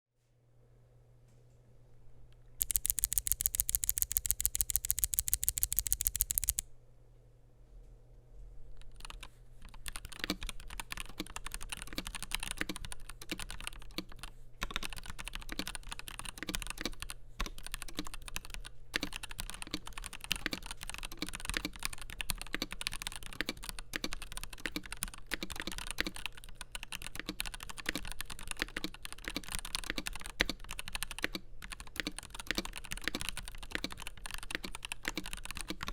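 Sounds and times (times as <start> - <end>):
mechanical keyboard typing: 2.6 - 6.6, 8.8 - 35.9.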